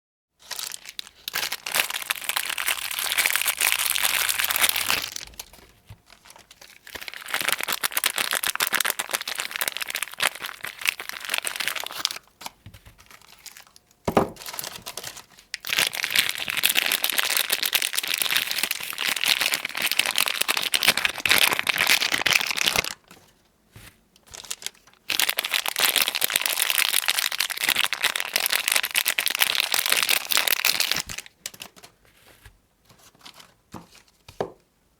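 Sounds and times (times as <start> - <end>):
packaging crinkling: 0.4 - 23.3, 24.2 - 32.0.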